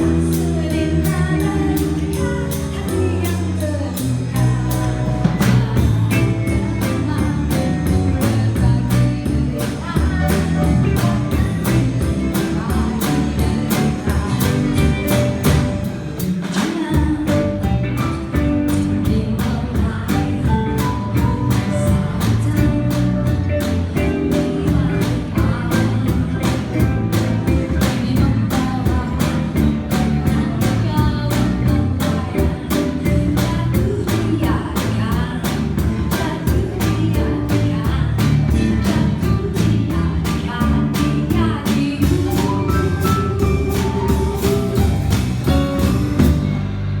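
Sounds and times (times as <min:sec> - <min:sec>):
woman singing: 0:00.0 - 0:46.4
live band playing pop song: 0:00.0 - 0:47.0.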